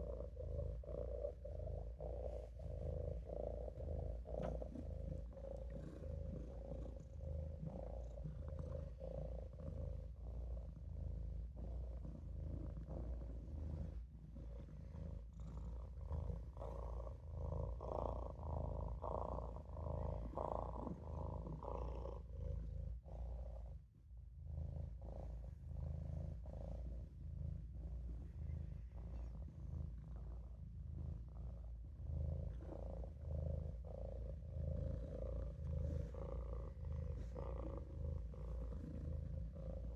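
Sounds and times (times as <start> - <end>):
kitten purring: 0.0 - 39.9.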